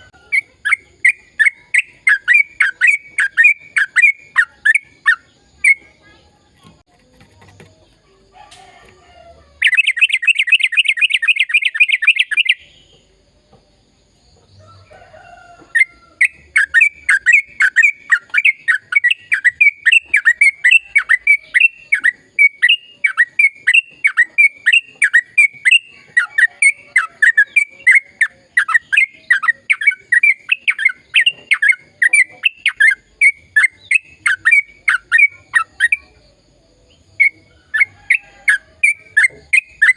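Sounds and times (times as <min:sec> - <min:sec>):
fast bird trill: 0:00.0 - 0:05.9, 0:09.6 - 0:12.8, 0:15.8 - 0:36.1, 0:37.1 - 0:39.9
bulbul singing: 0:00.0 - 0:06.9, 0:07.6 - 0:13.4, 0:14.2 - 0:39.9
rapid repeated bird chattering: 0:00.0 - 0:08.0, 0:09.6 - 0:13.1, 0:15.8 - 0:39.9.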